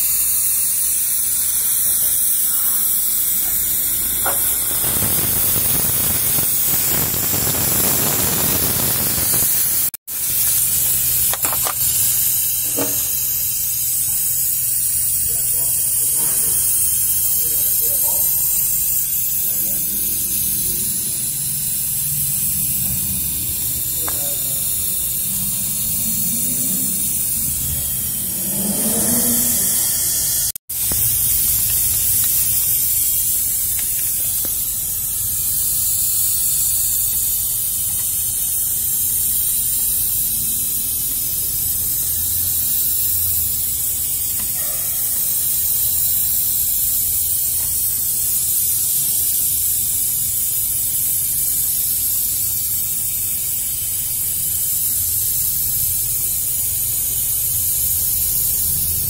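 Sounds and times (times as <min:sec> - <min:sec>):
compressed air hissing into tire: 0:00.0 - 0:59.0.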